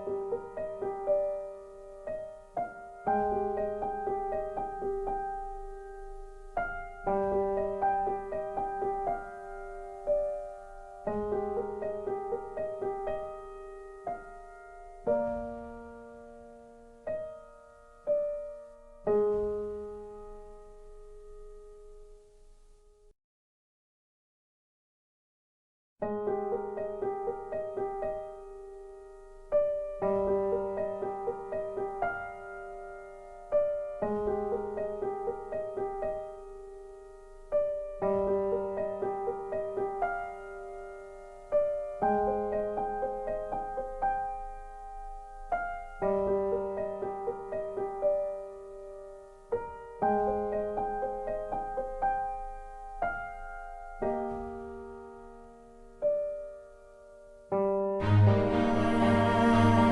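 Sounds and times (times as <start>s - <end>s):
slow gentle piano music: 0.0s - 23.1s, 26.0s - 59.9s.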